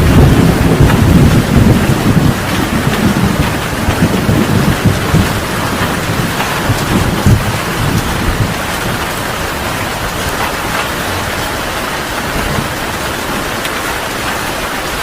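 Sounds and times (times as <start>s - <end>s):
heavy rain pouring: 0.0s - 15.0s
thunder rumbling: 0.0s - 15.0s.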